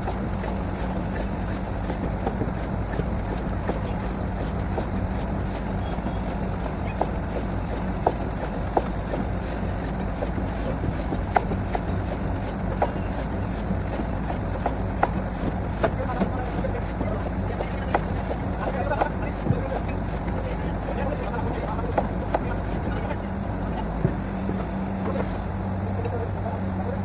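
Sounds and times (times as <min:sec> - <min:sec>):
drilling rig engine running: 0:00.0 - 0:27.0.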